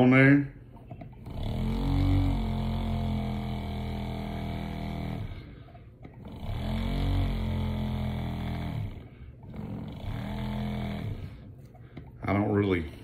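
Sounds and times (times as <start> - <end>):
vortex mixer motor hum: 0.7 - 12.6.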